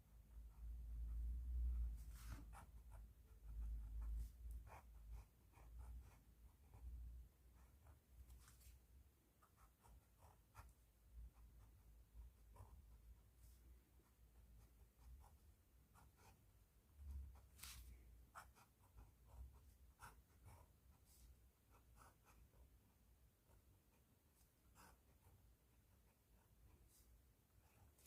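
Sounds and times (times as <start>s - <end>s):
pen scratching on paper: 0.3s - 28.0s.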